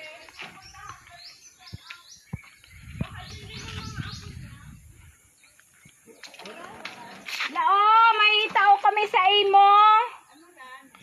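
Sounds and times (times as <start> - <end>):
small birds chirping: 0.0 - 7.6, 8.8 - 11.0.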